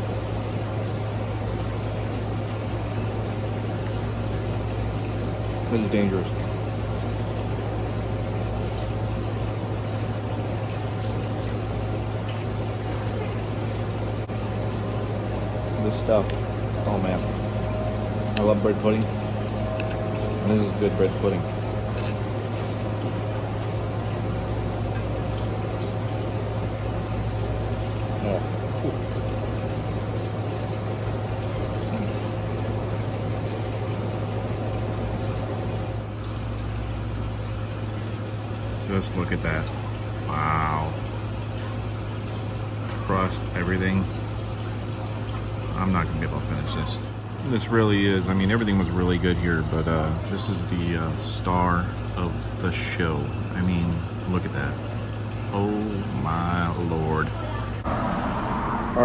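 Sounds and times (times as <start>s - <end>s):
low steady hum: 0.0s - 59.0s
small waterfall splashing: 0.0s - 59.0s.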